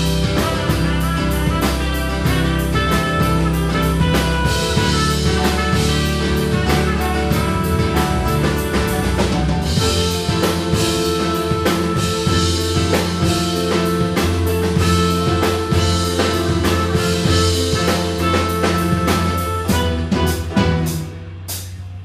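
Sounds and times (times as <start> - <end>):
drum kit beat: 0.0 - 22.0.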